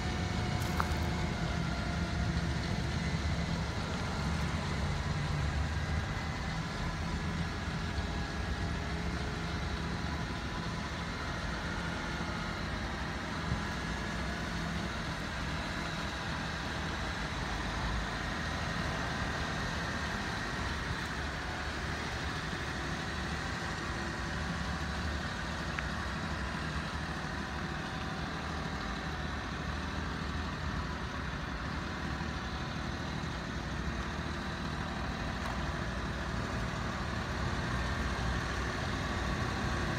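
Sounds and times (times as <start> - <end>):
small truck engine idling: 0.0 - 39.9.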